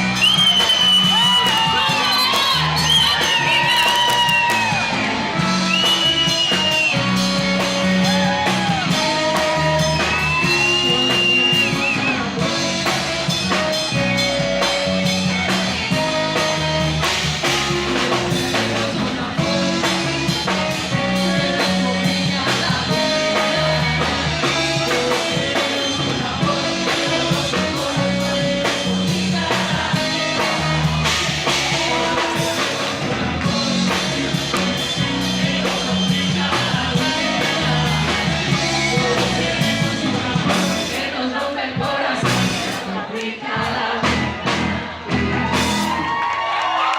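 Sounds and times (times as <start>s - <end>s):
electric guitar lead: 0.0s - 40.9s
bass line: 0.0s - 46.2s
drum kit: 0.0s - 46.9s.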